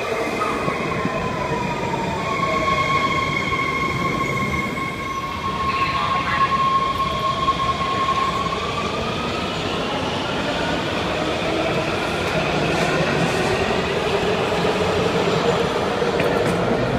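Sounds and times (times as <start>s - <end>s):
metro train rumble: 0.0s - 16.9s.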